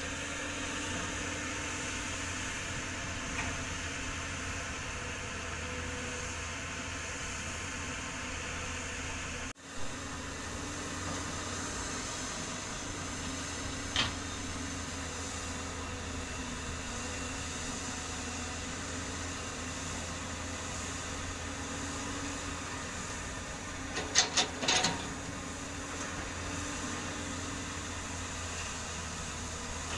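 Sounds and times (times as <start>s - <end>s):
distant heavy diesel engines: 0.0s - 29.9s.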